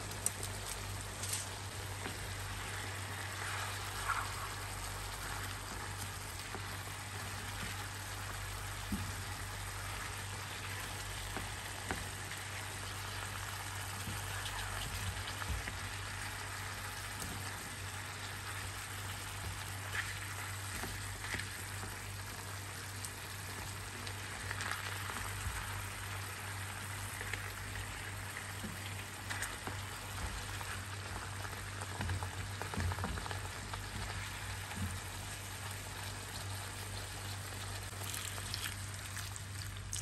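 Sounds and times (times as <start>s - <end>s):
chicken sizzling in a pan: 0.0s - 40.0s
low steady hum: 0.0s - 40.0s.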